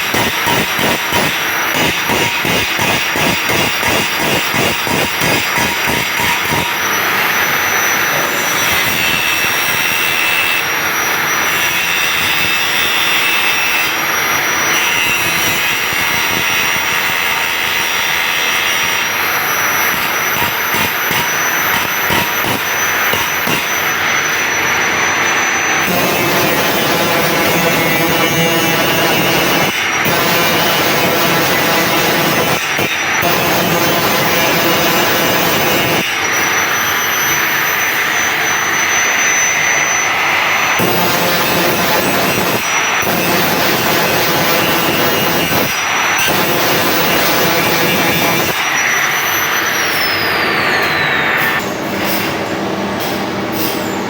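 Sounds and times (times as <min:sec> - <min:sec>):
grinding wheel sharpening saw blade: 0:00.0 - 0:52.4.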